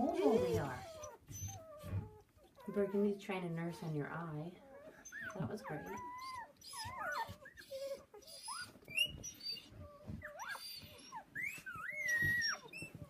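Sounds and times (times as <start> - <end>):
puppies squealing and whining: 0.0 - 13.0.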